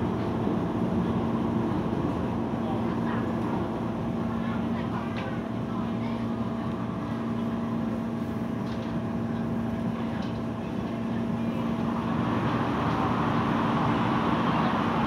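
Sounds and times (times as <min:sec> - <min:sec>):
constant train hum: 0:00.0 - 0:15.0
train wheels rumbling on track: 0:00.0 - 0:15.0.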